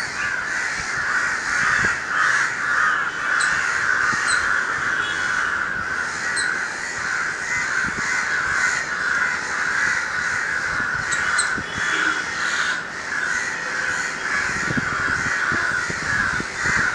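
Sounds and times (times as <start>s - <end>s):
crows cawing: 0.0s - 16.9s.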